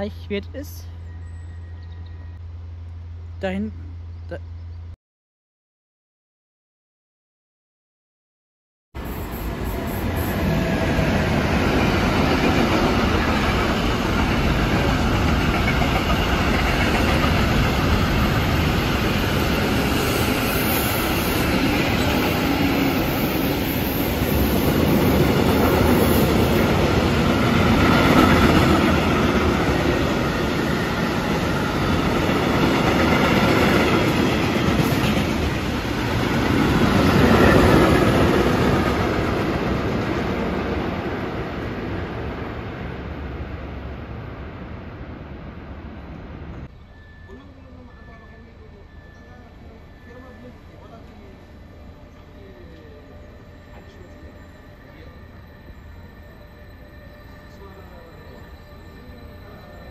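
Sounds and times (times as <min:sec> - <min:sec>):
train passing on tracks: 0:00.0 - 0:05.0, 0:09.0 - 0:59.9.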